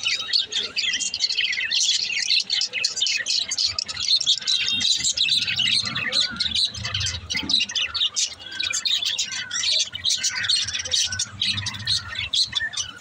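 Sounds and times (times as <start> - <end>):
budgerigars chattering and chirping: 0.0 - 13.0.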